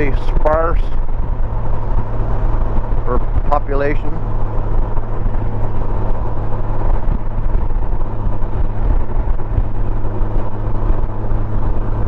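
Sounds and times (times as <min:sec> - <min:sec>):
motorcycle engine drone: 0:00.0 - 0:12.0
wind and road noise: 0:00.0 - 0:12.0.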